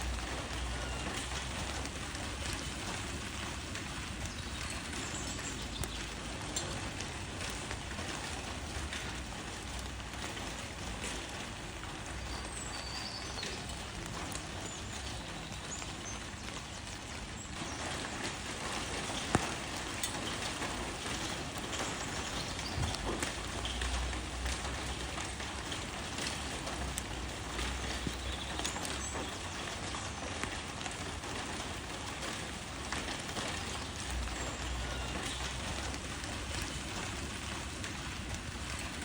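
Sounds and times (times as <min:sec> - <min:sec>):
rain falling on leaves: 0:00.0 - 0:39.0.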